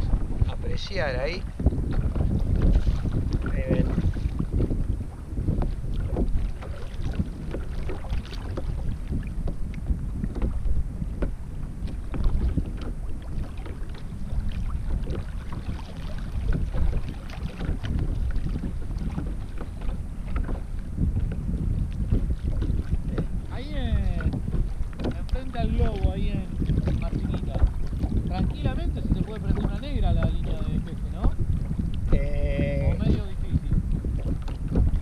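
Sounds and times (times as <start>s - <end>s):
waves splashing against kayak: 0.0s - 35.0s
wind on microphone: 0.0s - 35.0s.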